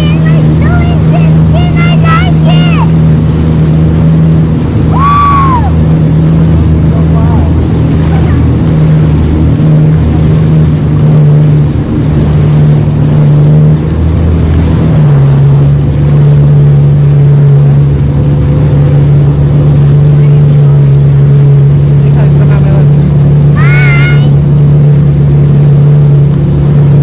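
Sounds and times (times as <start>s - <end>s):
jet ski engine droning: 0.0s - 27.0s.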